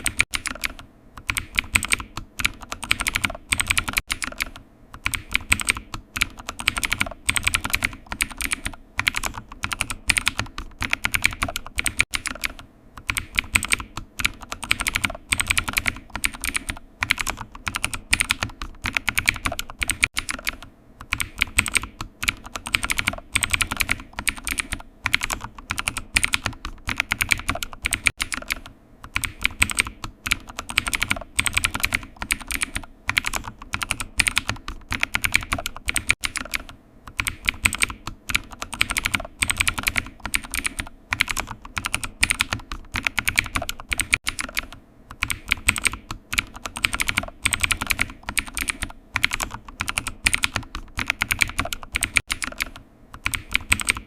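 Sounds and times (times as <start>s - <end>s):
computer keyboard typing: 0.0s - 54.0s.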